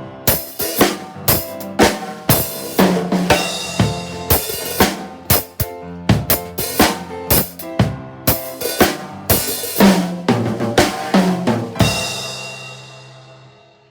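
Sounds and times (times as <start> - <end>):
drum kit playing reggae groove: 0.0 - 13.6
piano accompaniment: 0.0 - 13.9.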